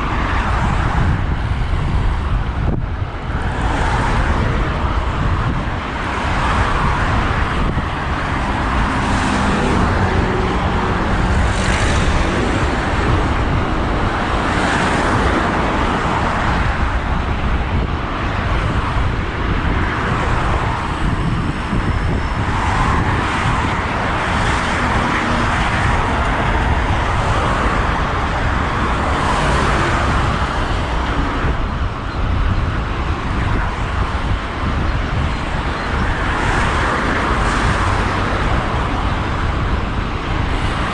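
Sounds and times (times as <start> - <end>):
cars passing: 0.0 - 40.9
wind and road noise rumble: 0.0 - 40.9.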